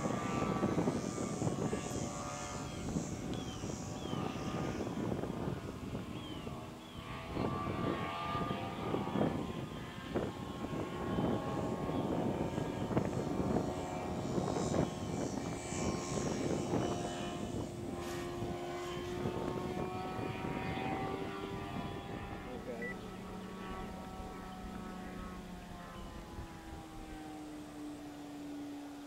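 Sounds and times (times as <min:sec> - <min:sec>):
ultralight plane engine droning: 0:00.0 - 0:29.0.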